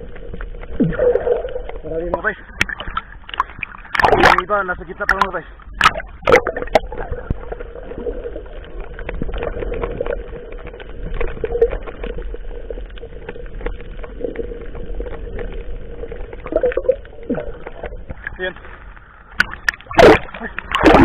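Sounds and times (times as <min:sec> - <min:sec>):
water sloshing: 0:00.0 - 0:21.0.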